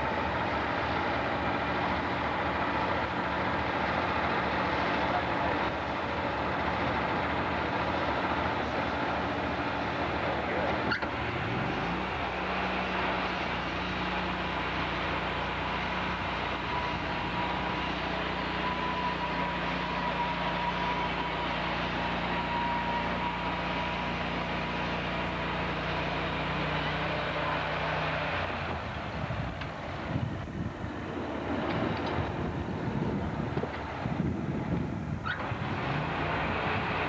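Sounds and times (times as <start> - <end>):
sawmill machinery drone: 0.0 - 37.0.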